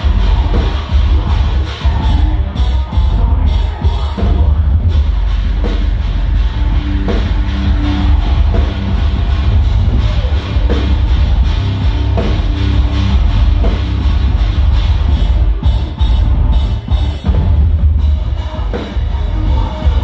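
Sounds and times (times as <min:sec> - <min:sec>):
heavy distorted guitars: 0:00.0 - 0:20.0
metal band playing live: 0:00.0 - 0:20.0
pounding drum kit: 0:00.0 - 0:20.0.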